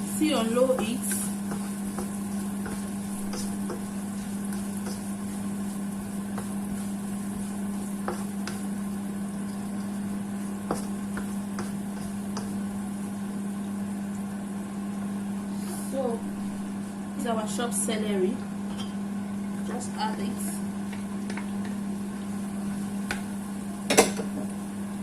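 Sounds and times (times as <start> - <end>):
food frying in oil: 0.0 - 25.0
steady low hum: 0.0 - 25.0.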